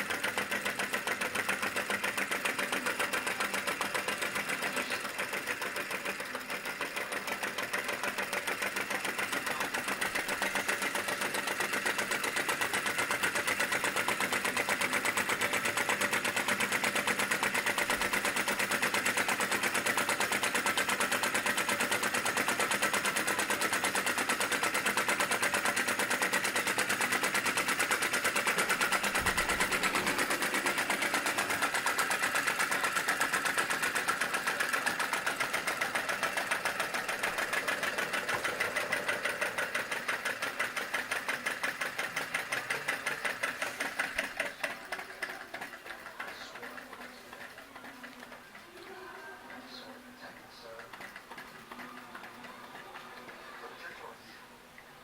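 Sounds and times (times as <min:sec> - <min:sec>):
model engine popping steadily: 0:00.0 - 0:55.0.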